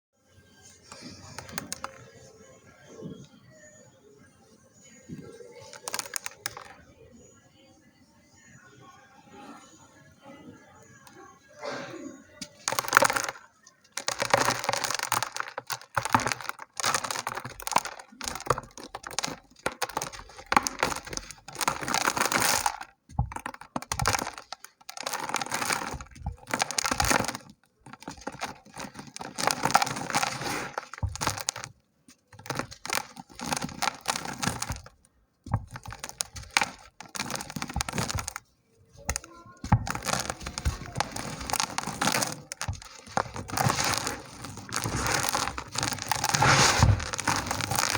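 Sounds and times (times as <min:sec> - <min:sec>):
dry dirt crumbling and crunching: 0:00.6 - 0:02.3, 0:05.1 - 0:06.9, 0:12.3 - 0:47.9.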